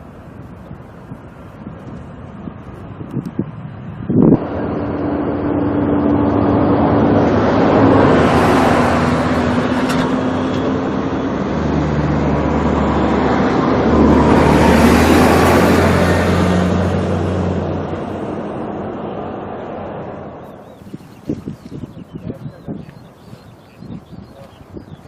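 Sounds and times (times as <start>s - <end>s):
jet engines passing overhead: 0.0s - 21.0s.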